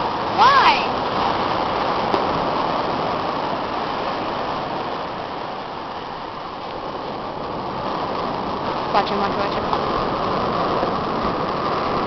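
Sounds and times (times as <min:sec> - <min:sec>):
surf washing on beach: 0:00.0 - 0:12.0.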